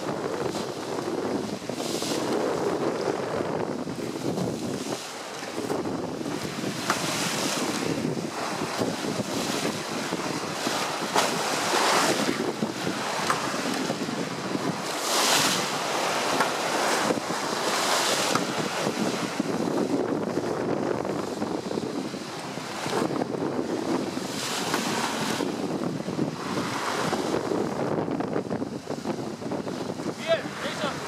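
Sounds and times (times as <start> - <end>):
waves breaking against boat bow: 0.0 - 31.0
wind buffeting microphone: 0.0 - 31.0.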